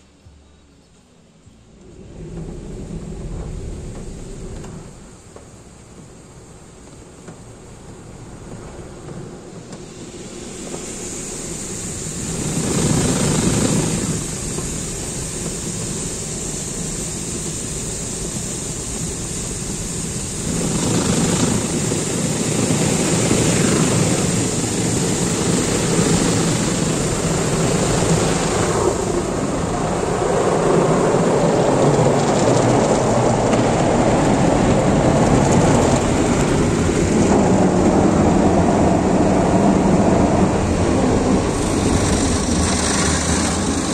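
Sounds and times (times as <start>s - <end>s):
water spraying on car: 2.0s - 43.9s.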